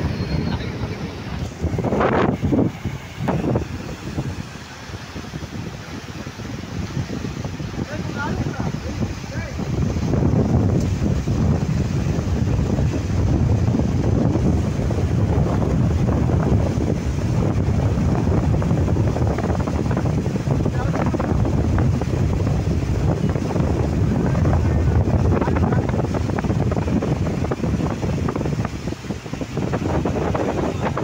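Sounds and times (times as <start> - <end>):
water rushing over weir: 0.0 - 31.0
wind rumbling on microphone: 0.0 - 31.0.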